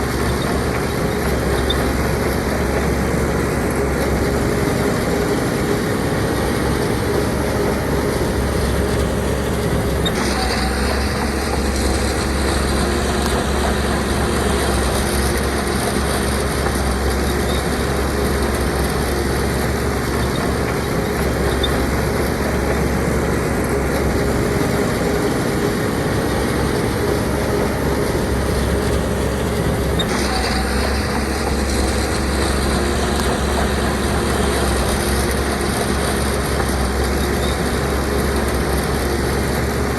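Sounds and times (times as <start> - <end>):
diesel earthmoving machinery running: 0.0 - 39.9.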